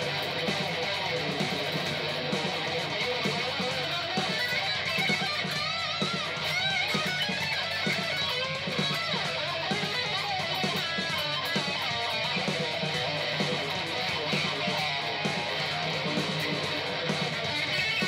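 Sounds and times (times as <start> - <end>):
electric guitar playing: 0.0 - 18.0.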